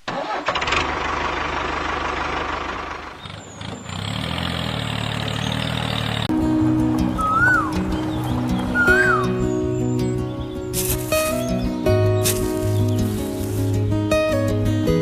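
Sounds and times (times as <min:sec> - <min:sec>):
vehicle engine running: 0:00.1 - 0:14.7.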